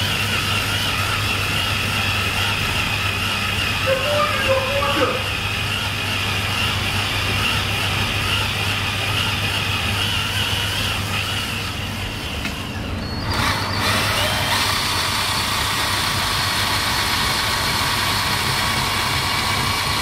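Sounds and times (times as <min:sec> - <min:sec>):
model engine running: 0:00.0 - 0:20.0.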